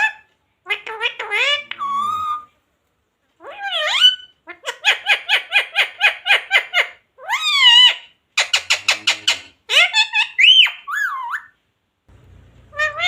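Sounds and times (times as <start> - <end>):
parrot calling and chattering: 0.0 - 2.5, 3.4 - 11.6, 12.6 - 13.0.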